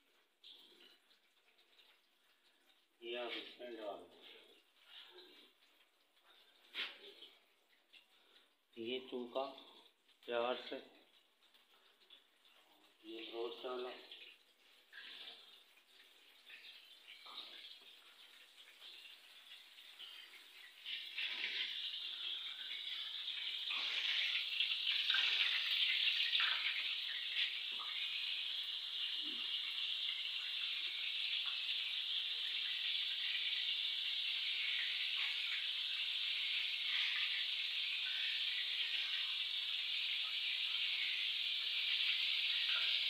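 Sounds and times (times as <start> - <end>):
chicken deep-frying in oil: 0.0 - 43.0.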